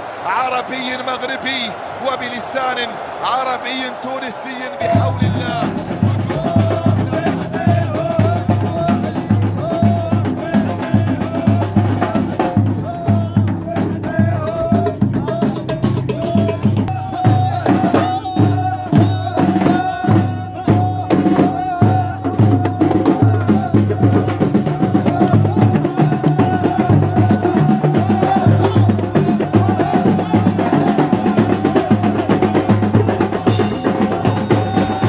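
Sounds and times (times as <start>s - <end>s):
voices singing: 0.0s - 35.0s
hand drums beating: 4.8s - 35.0s.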